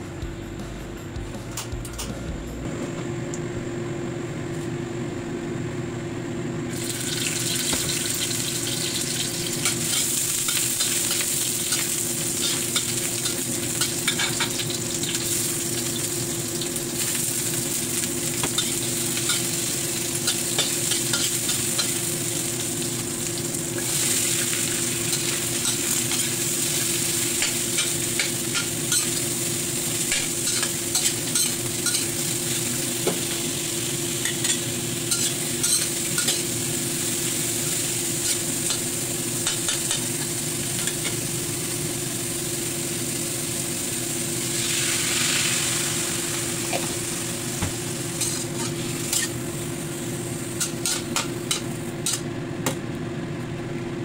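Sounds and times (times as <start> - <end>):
food sizzling in a wok: 6.7 - 52.3.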